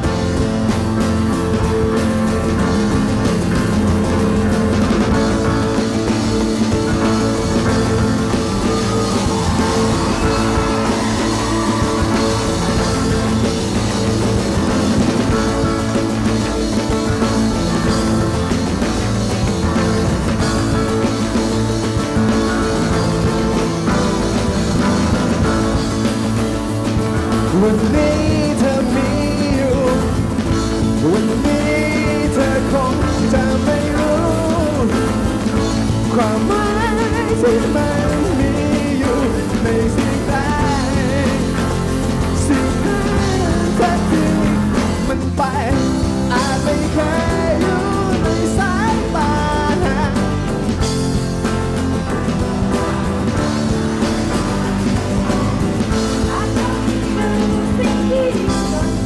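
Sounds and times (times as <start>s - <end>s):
guitar: 0.0s - 59.0s
instrumental rock music: 0.0s - 59.0s
person singing: 3.0s - 24.0s, 27.2s - 50.8s, 52.7s - 59.0s.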